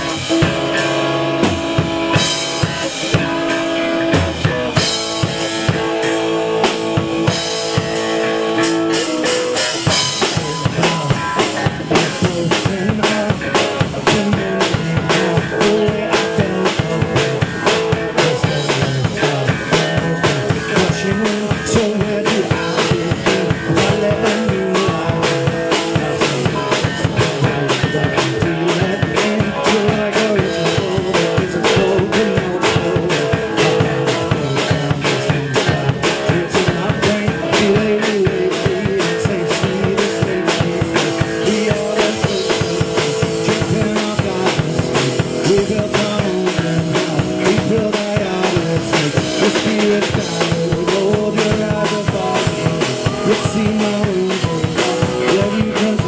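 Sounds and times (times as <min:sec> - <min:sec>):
bass guitar: 0:00.0 - 0:56.0
drum kit beat: 0:00.0 - 0:56.0
electric guitars: 0:00.0 - 0:56.0.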